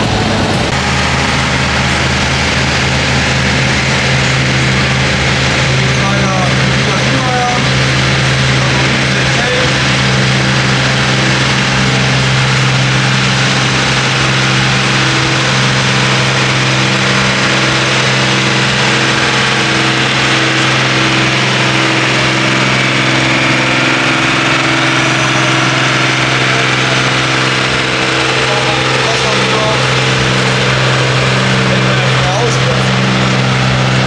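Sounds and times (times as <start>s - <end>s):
tractor engine running loudly: 0.0s - 34.0s.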